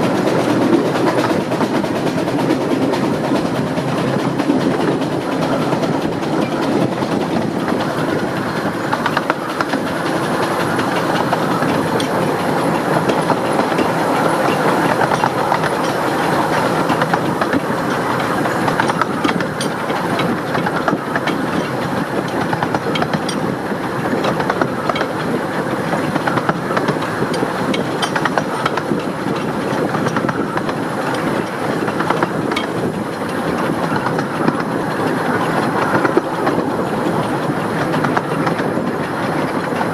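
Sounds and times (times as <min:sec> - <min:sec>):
steam locomotive exhaust beating: 0:00.0 - 0:39.9
wheels clicking over rail joints: 0:00.0 - 0:39.9.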